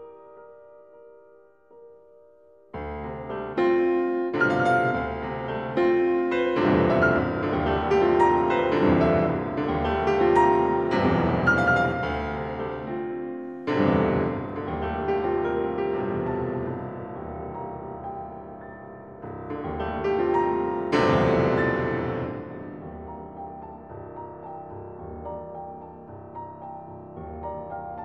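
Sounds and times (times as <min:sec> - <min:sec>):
solo piano: 0:00.0 - 0:28.0.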